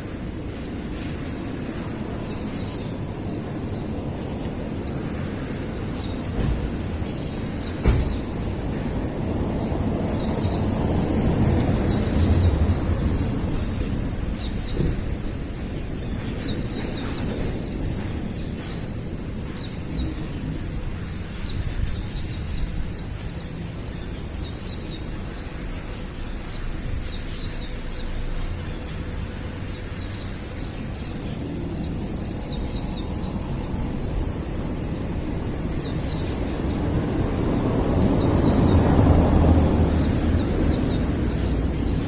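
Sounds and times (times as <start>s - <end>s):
wind buffeting microphone: 0.0s - 27.9s, 30.3s - 42.0s
small birds chirping: 0.0s - 42.0s.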